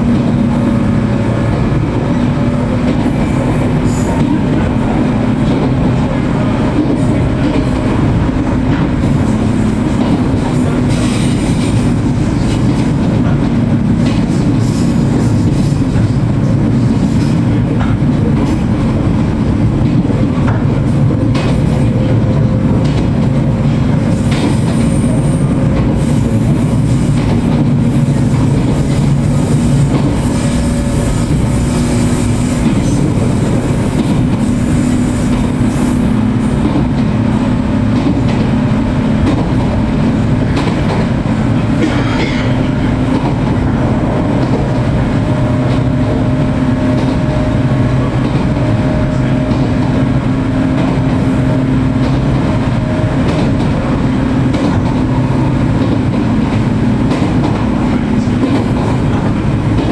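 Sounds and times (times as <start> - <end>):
train wheels rumbling on rail: 0.0 - 59.9
rail-joint clicks: 0.2 - 59.9.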